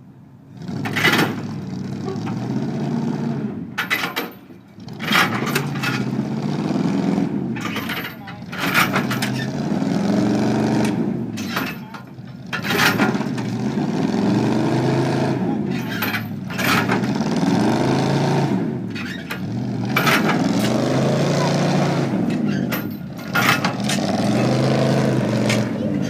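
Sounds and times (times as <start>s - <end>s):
heavy vehicle engine revving: 0.3s - 26.0s.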